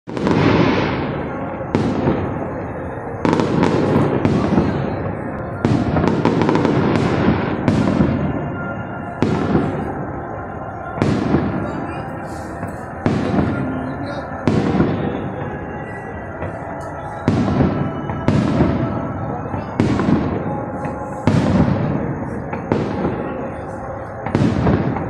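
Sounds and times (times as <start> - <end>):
aerial fireworks bangs: 0.1 - 10.2, 10.8 - 15.4, 16.3 - 25.0.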